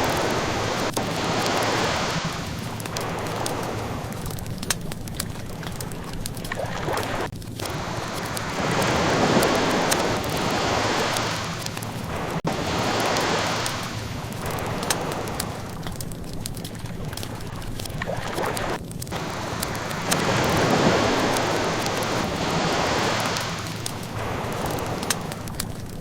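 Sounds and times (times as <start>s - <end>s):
ocean waves washing: 0.0s - 26.0s
wood fire crackling: 0.0s - 26.0s.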